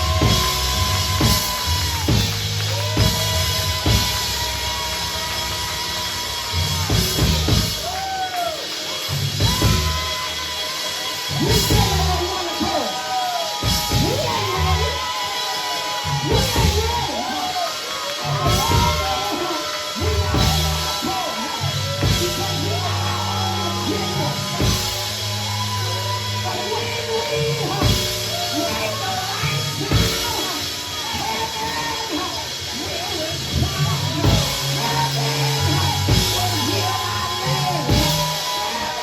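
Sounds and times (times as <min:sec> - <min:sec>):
live band with drums and bass: 0:00.0 - 0:39.0.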